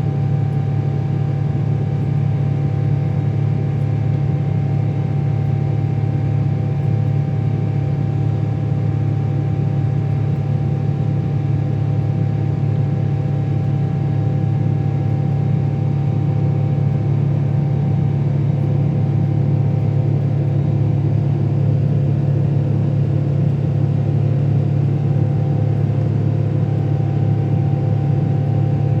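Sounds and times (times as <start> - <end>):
faint engine whine: 0.0 - 29.0
jet engines low drone: 0.0 - 29.0.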